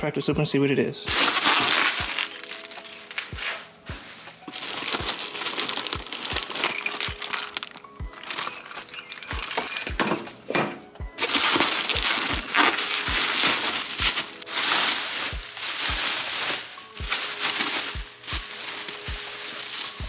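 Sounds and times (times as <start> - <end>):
background music with low thumps: 0.0 - 20.0.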